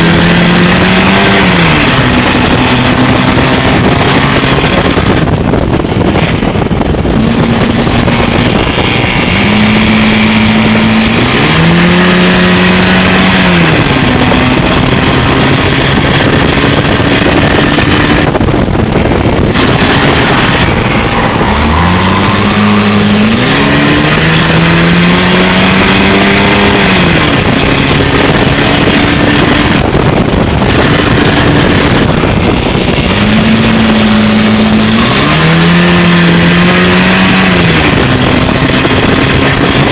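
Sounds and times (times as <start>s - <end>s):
race car engine running hard: 0.0s - 39.9s
wind and road noise: 0.0s - 39.9s.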